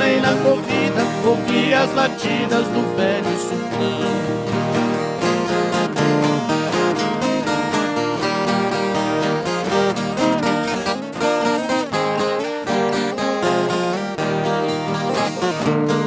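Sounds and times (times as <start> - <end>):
guitar picking quick melody: 0.0 - 16.0
strummed acoustic guitar: 0.0 - 16.0.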